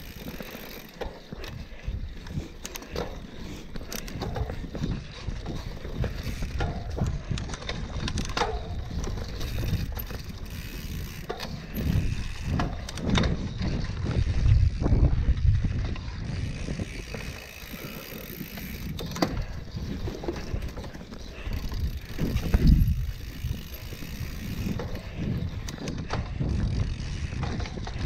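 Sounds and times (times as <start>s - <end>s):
bike chain rattling and clicking: 0.0s - 28.0s
bike tyres on dirt: 0.0s - 28.0s.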